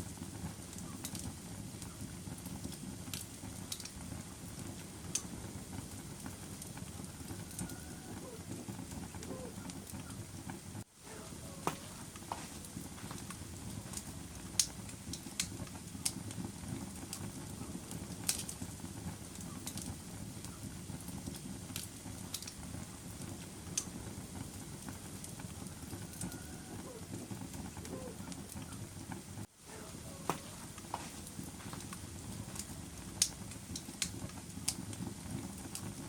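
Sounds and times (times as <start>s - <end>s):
fire burning in fireplace: 0.0s - 36.0s
fire crackling and popping: 0.0s - 36.0s.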